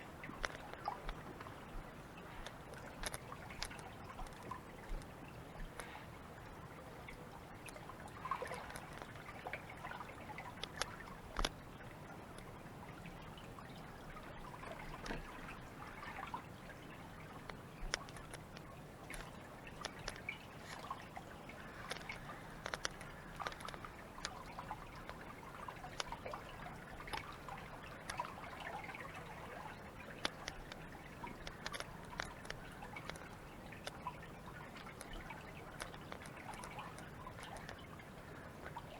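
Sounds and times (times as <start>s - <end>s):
running water: 0.0s - 38.9s
water dripping and splashing: 0.0s - 38.9s.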